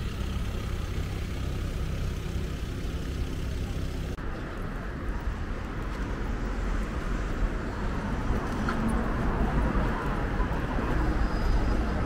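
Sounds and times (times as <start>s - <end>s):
passing cars rumbling: 0.0s - 12.0s.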